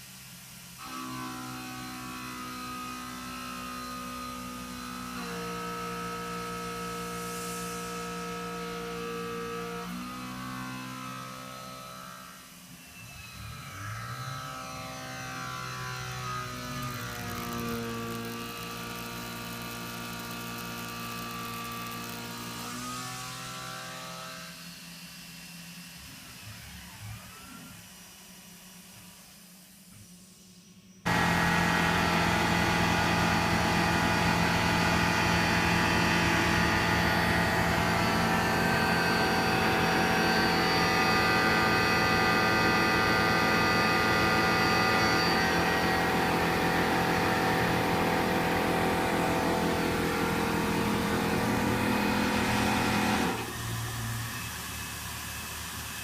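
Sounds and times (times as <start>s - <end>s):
cnc mill cutting metal whine: 0.8s - 29.5s, 31.1s - 56.0s.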